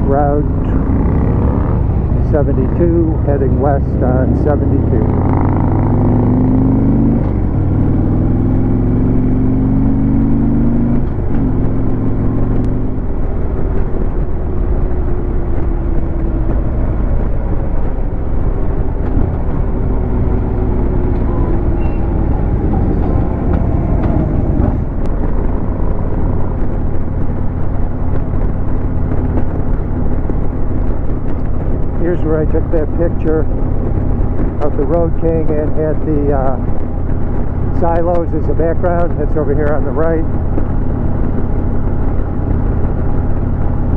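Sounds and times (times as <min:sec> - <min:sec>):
motorcycle engine accelerating: 0:00.0 - 0:43.9
road and wind noise: 0:00.0 - 0:43.9.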